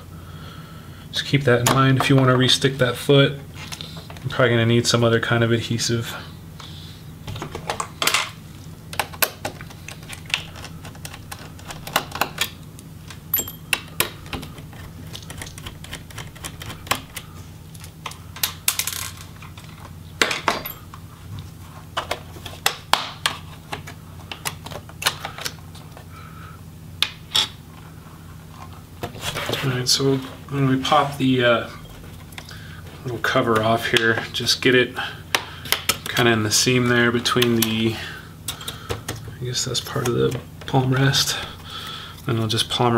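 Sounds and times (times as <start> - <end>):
faint low hum: 0.0 - 42.9.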